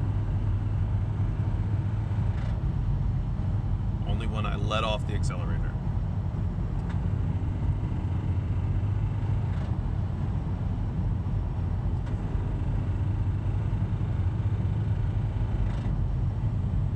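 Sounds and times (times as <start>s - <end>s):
car engine and road noise: 0.0s - 16.9s.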